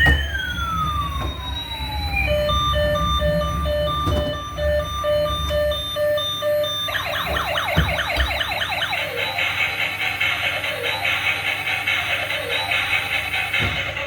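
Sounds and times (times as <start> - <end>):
toy siren beeping: 0.0 - 14.0
toy siren warbling: 0.0 - 14.0.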